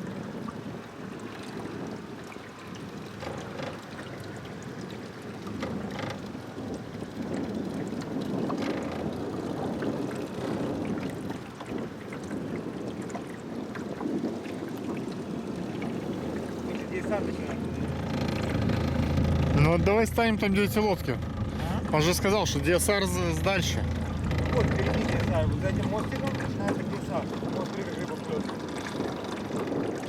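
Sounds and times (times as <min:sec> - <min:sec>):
boat water noise: 0:00.0 - 0:30.0
wind on microphone: 0:00.0 - 0:30.0.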